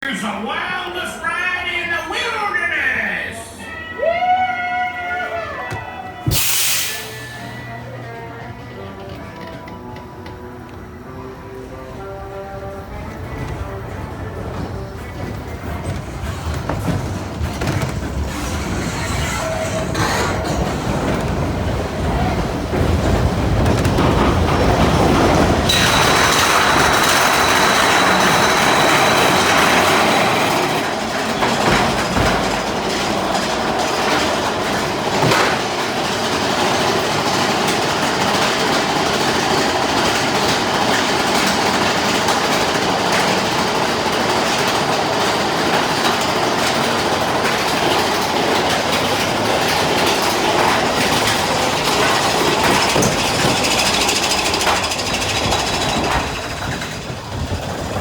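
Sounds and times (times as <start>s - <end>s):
roller coaster cars rattling on track: 0.0s - 58.0s.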